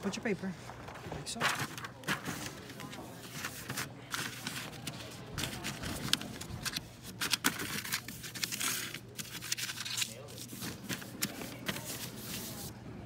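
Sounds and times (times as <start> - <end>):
filter paper rustling and crinkling: 0.6 - 12.7
paper crackling: 0.9 - 12.7.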